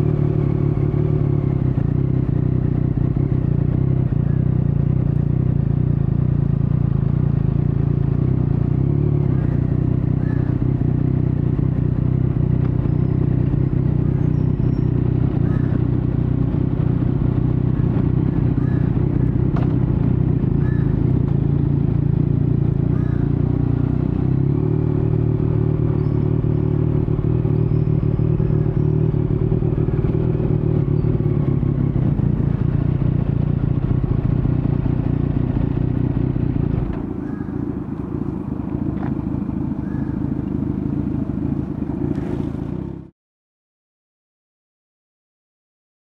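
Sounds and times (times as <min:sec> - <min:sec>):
motorcycle engine at low revs: 0:00.0 - 0:43.1.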